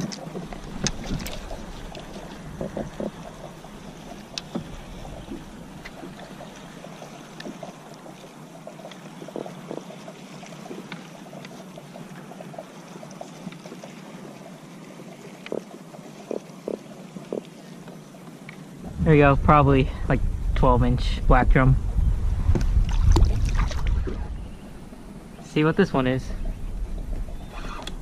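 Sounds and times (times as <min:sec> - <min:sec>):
water lapping around kayak: 0:00.0 - 0:28.0.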